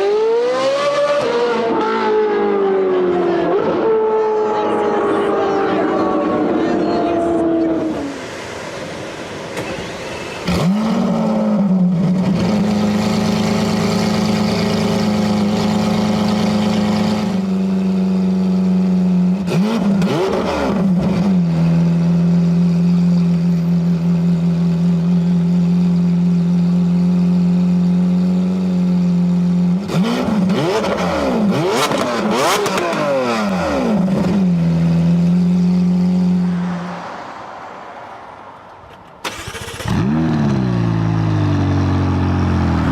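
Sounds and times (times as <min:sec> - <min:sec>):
car engine revving and idling: 0:00.0 - 0:09.1, 0:09.8 - 0:38.4, 0:39.3 - 0:42.9.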